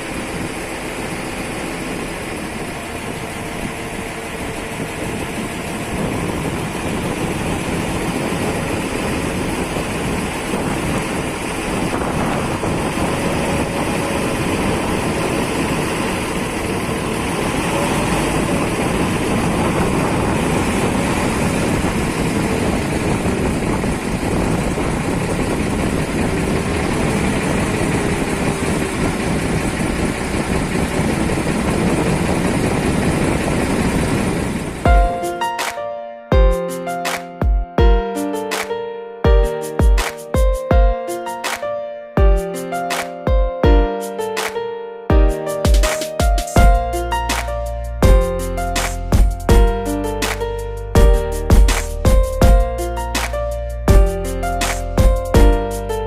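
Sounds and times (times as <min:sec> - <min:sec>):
ferry engine running: 0:00.0 - 0:38.7, 0:45.2 - 0:56.0.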